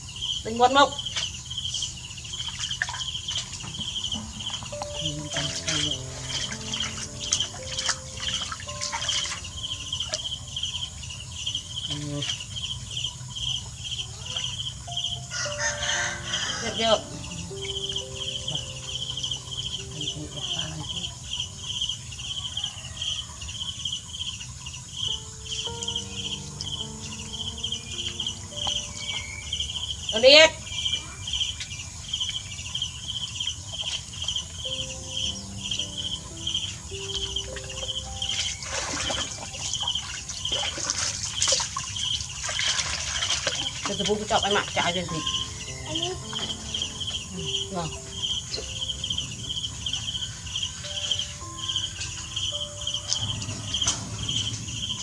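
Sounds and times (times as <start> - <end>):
insect chirping trills: 0.0 - 55.0.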